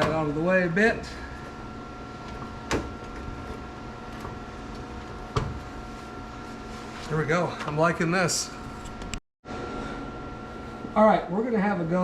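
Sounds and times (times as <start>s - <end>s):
steady shop hum: 0.0s - 12.0s.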